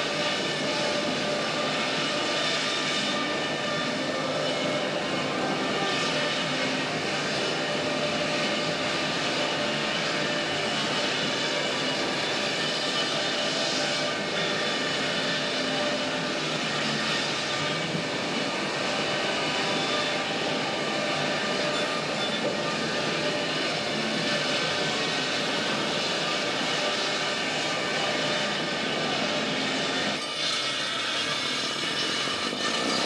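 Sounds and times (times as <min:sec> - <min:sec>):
mill machinery drone: 0:00.0 - 0:33.0.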